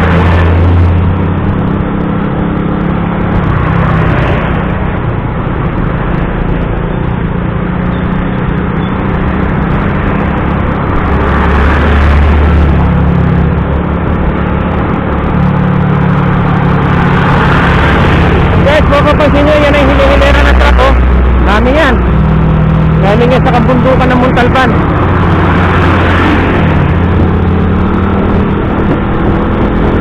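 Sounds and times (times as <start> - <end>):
motorcycle engine hum: 0.0 - 30.0
road and wind rush: 0.0 - 30.0.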